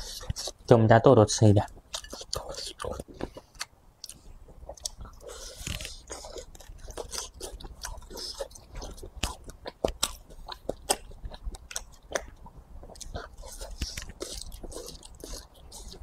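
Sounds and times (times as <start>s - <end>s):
mouth chewing wetly: 1.6s - 16.0s.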